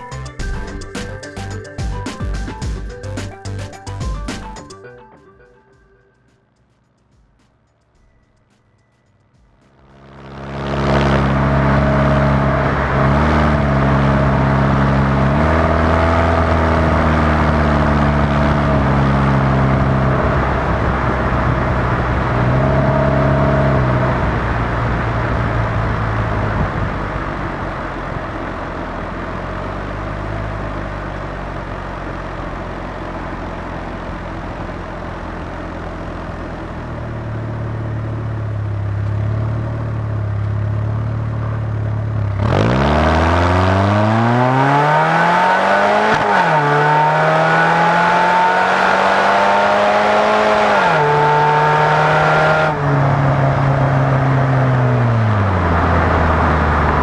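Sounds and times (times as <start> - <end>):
road and wind noise: 0.0 - 5.0, 6.2 - 57.0
car engine accelerating through gears: 9.5 - 57.0.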